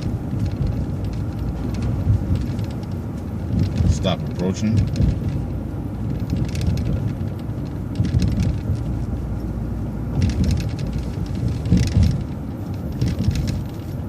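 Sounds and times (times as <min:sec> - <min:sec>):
bus engine rumble: 0:00.0 - 0:14.0
short rattles: 0:00.0 - 0:14.0.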